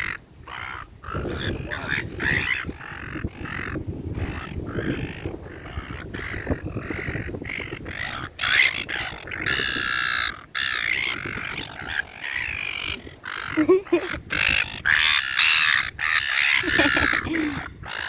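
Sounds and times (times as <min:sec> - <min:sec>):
seagulls squawking: 0:00.0 - 0:18.0.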